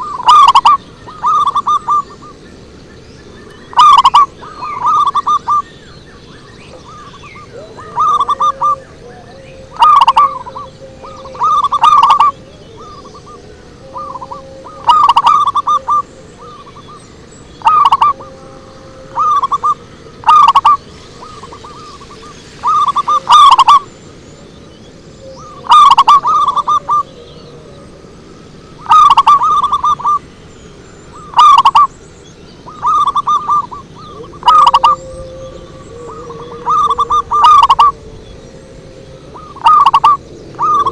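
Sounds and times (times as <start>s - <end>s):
dove cooing: 0.0s - 2.5s, 3.3s - 30.3s, 31.0s - 32.0s, 32.6s - 40.9s
faint bird chirps: 0.0s - 40.9s.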